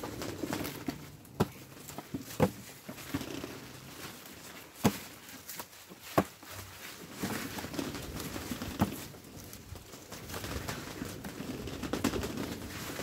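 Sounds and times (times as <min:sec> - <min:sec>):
rustling vines and leaves: 0:00.0 - 0:13.0.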